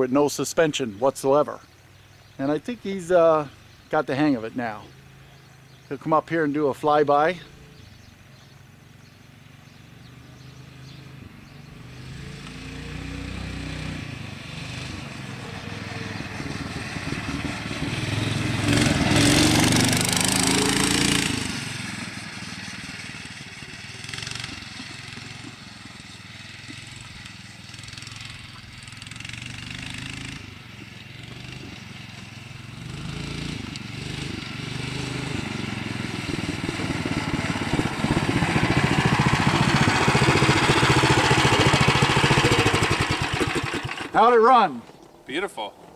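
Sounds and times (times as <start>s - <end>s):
small engine vehicle driving past: 7.3s - 44.2s.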